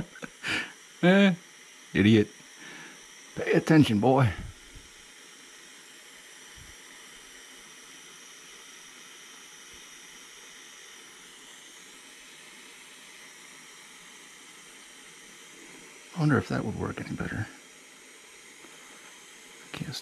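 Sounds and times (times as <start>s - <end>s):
gas flame hissing: 0.0s - 20.0s.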